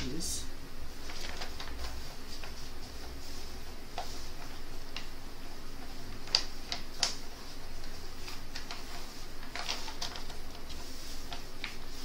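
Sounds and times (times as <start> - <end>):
plastic sheet crinkling: 0.9 - 12.0.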